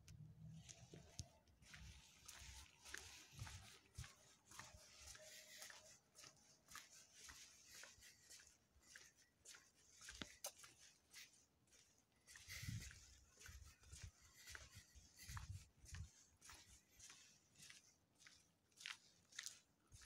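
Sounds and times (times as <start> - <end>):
footsteps crunching on grit: 0.7 - 20.0.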